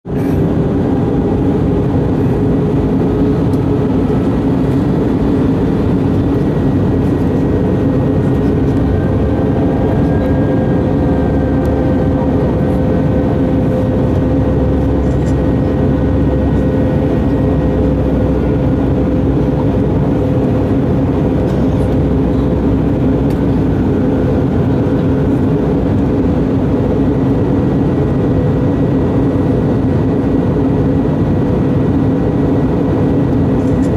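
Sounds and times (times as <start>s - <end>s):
airliner cabin engine drone: 0.1s - 33.9s.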